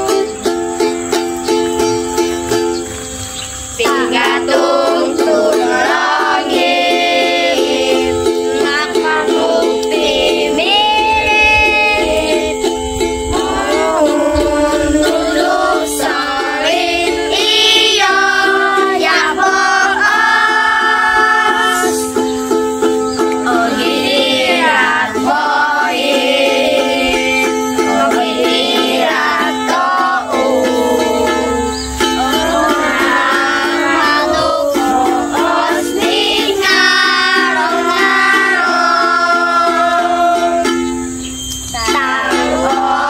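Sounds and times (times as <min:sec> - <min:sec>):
children singing: 0:00.0 - 0:02.9, 0:03.6 - 0:43.0
ukulele strumming: 0:00.0 - 0:43.0.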